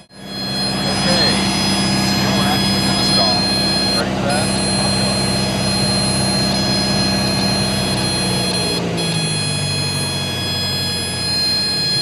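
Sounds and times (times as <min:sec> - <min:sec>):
aircraft engine from cabin: 0:00.0 - 0:12.0.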